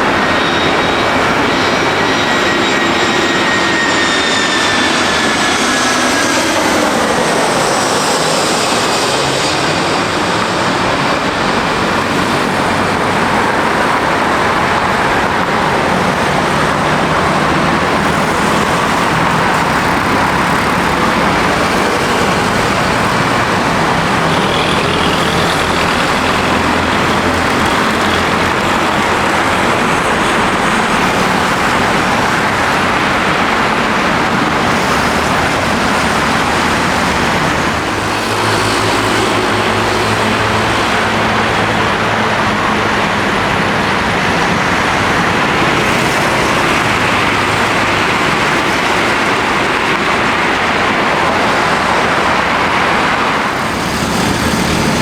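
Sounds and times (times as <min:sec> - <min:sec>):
jet airliner landing roar: 0:00.0 - 0:55.0.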